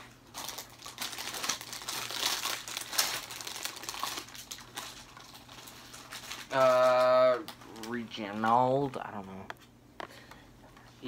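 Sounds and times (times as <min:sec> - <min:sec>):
plastic wrappers crinkling: 0:00.0 - 0:09.2.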